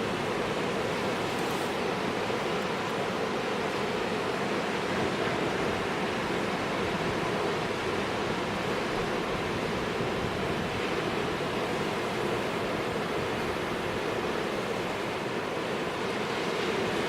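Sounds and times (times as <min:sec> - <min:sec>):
surf crashing on rocks: 0:00.0 - 0:17.0.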